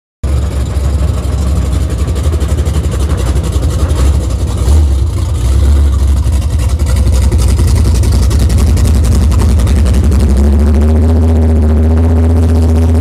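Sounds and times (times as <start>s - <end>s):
truck engine deep rumble: 0.2s - 13.0s.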